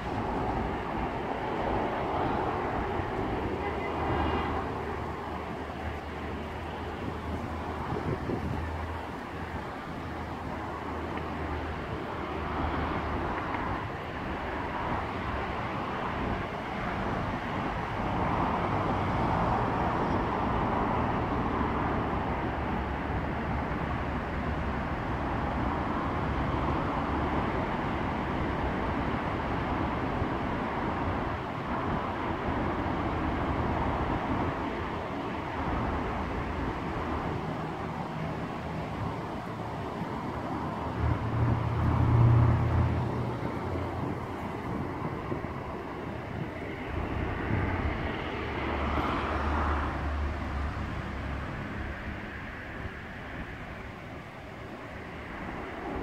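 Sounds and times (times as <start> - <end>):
distant diesel locomotive hum: 0.0 - 56.0
outdoor noise: 0.0 - 56.0.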